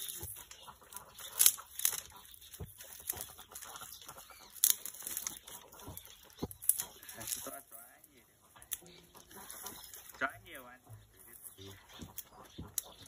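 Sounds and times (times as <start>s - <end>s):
twigs snapping: 0.0s - 7.8s, 8.6s - 10.2s, 11.3s - 13.0s
twigs rustling and crackling: 0.0s - 13.0s.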